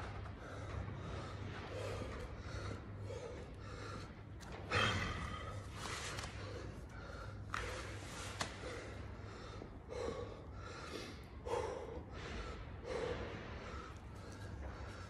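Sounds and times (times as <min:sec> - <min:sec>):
man breathing hard: 0:00.0 - 0:15.0
steady low hum: 0:00.0 - 0:15.0.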